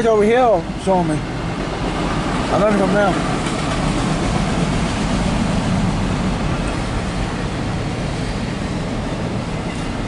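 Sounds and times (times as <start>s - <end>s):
freight train cars rumbling past: 0.0s - 10.0s.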